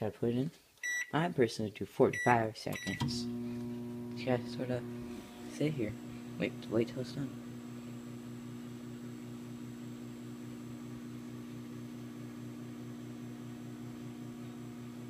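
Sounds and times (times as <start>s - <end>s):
microwave oven humming: 2.8s - 15.0s.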